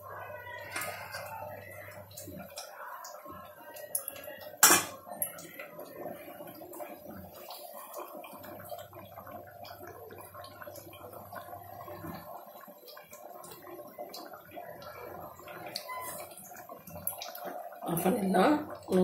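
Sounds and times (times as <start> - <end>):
thick gravy bubbling and popping: 0.0 - 19.0.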